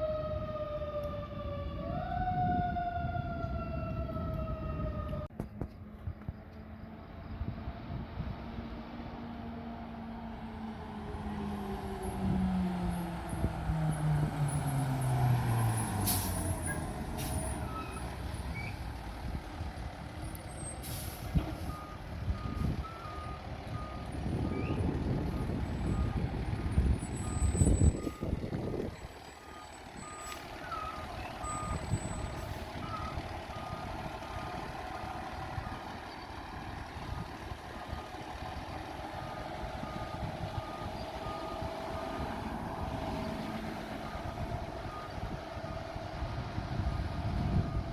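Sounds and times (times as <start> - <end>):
truck engine running: 5.2 - 47.9.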